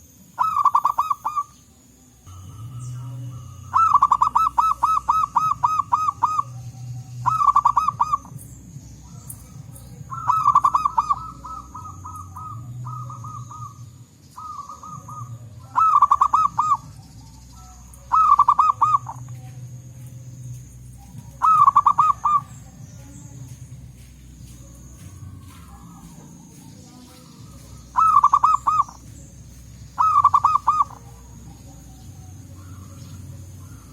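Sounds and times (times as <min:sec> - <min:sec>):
doves cooing: 0:00.0 - 0:33.9.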